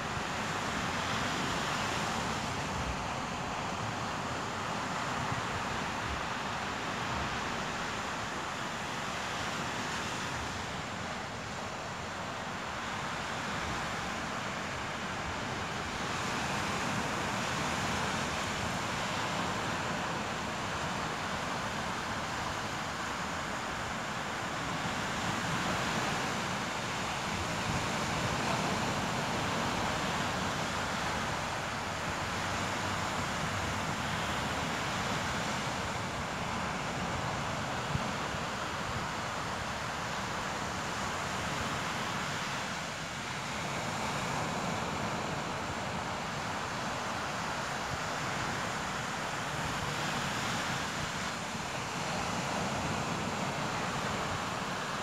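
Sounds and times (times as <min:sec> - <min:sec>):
surf breaking on beach: 0:00.0 - 0:55.0.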